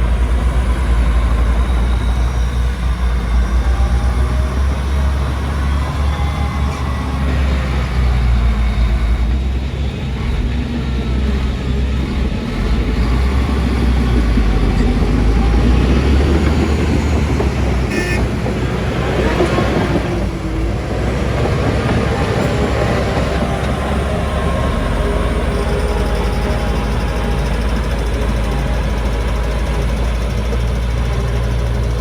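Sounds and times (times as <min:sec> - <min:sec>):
heavy diesel machinery running: 0:00.0 - 0:32.0.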